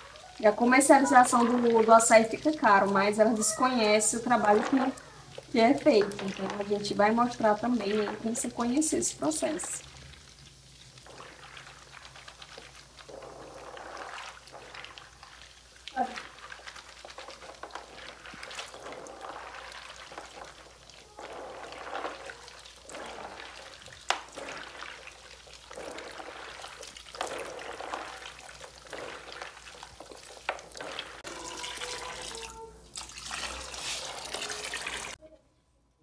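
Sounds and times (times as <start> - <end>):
hands squelching berries in water: 0.0 - 35.2.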